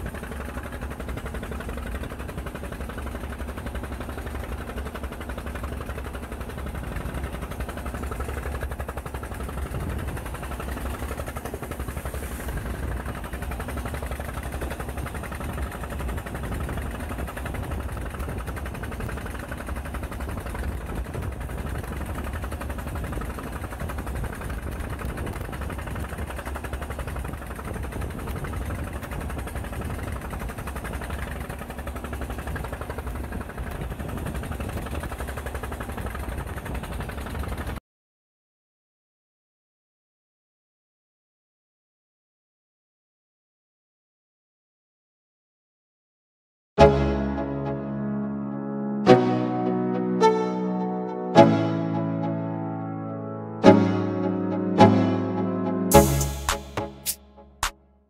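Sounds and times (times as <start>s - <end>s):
boat engine pulsing: 0.0s - 37.8s, 46.8s - 57.8s.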